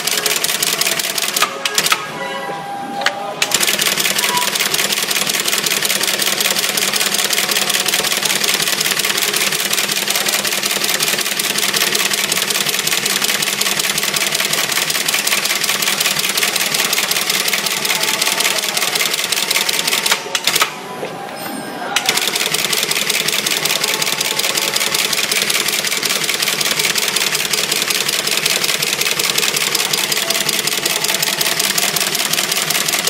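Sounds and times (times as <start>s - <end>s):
machine clattering rapidly: 0.0s - 2.0s, 3.4s - 20.7s, 22.1s - 33.0s.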